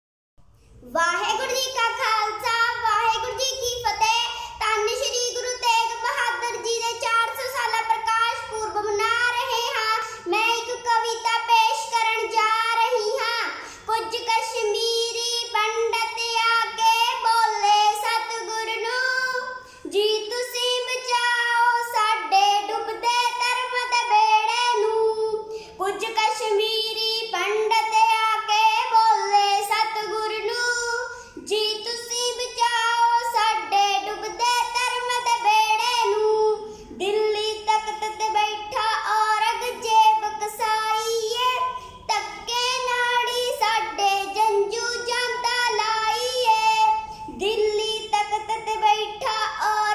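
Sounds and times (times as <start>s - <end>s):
girl singing unaccompanied: 0.6s - 49.9s.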